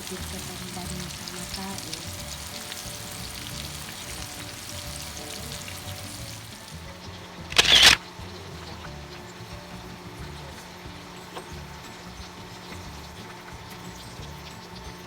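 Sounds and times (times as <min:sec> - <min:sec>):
background music: 0:00.0 - 0:15.0
chicken frying in oil: 0:00.0 - 0:15.0.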